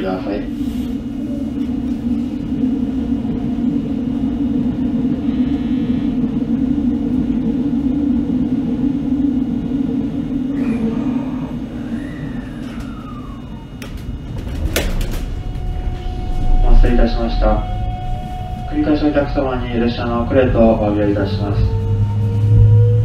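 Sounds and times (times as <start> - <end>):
train car rumbling: 0.0 - 23.0
whine sliding down in pitch: 0.0 - 23.0.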